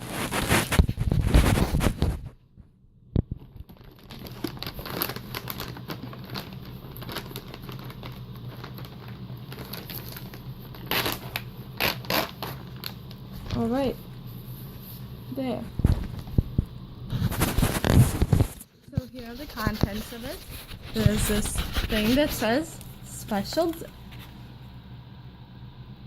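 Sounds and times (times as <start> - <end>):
packaging crinkling and rustling: 0.0 - 2.4, 3.2 - 15.1, 15.7 - 24.6.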